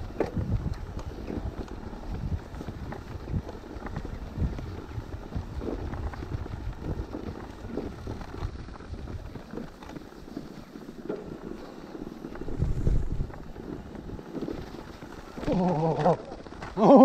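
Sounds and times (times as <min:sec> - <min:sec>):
bike knocking and rattling: 0:00.0 - 0:17.0
wind rumbling on microphone: 0:00.0 - 0:17.0.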